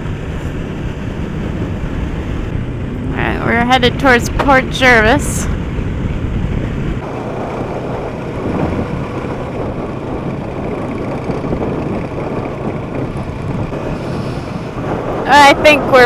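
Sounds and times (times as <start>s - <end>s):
motorcycle engine running: 0.0s - 14.0s
wind and road noise: 0.0s - 16.0s.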